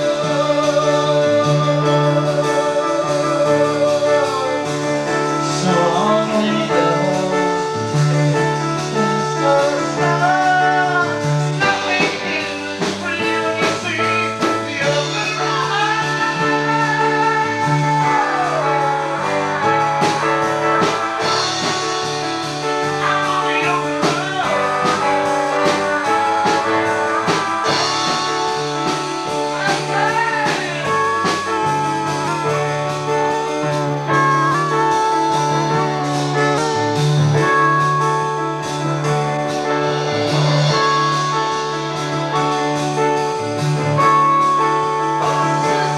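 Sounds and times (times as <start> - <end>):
person singing: 0.0 - 43.0, 43.8 - 45.9
bass line: 0.0 - 45.9
drums: 0.0 - 45.9
guitar: 0.0 - 45.9.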